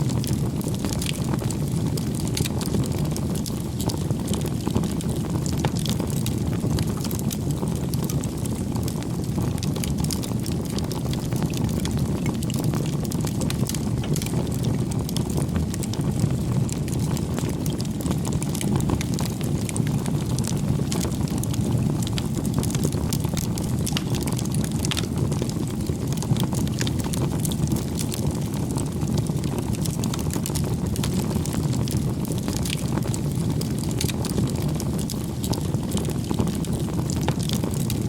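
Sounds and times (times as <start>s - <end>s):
fire crackling and popping: 0.0s - 38.0s
roar of flames: 0.0s - 38.0s.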